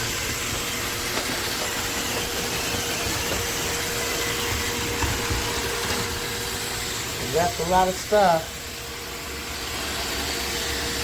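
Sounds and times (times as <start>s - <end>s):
robot vacuum running: 0.0s - 11.0s.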